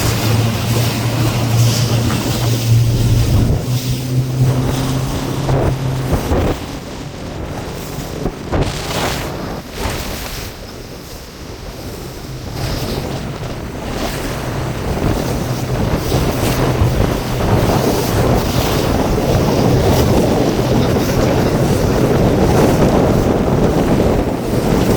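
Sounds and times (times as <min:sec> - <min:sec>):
outboard motor running: 0:00.0 - 0:24.9
water splashing against hull: 0:00.0 - 0:24.9
wind buffeting microphone: 0:00.0 - 0:24.9.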